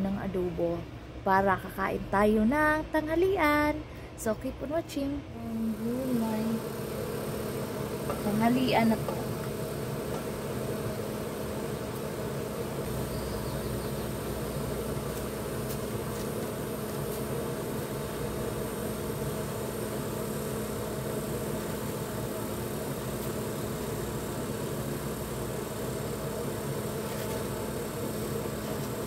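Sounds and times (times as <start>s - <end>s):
motor hum: 5.2s - 29.0s.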